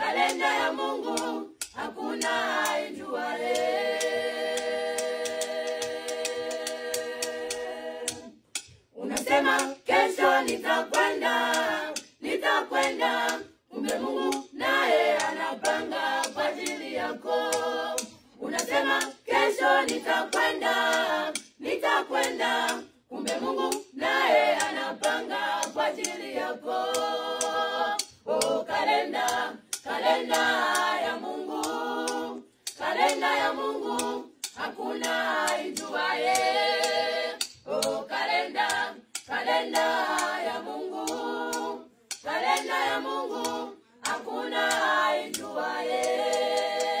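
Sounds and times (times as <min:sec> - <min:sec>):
choir singing a cappella: 0:00.0 - 0:47.0
sharp taps keeping time: 0:00.0 - 0:47.0.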